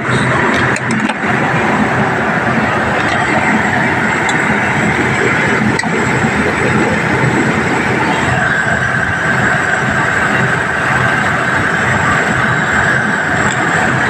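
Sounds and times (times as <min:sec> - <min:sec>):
steady high whine: 0:00.0 - 0:14.0
van engine idling: 0:00.0 - 0:14.0.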